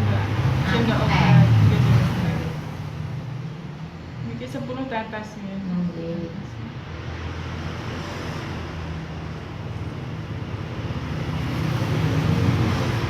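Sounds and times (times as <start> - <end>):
low engine hum: 0.0 - 13.0
road traffic: 0.0 - 13.0.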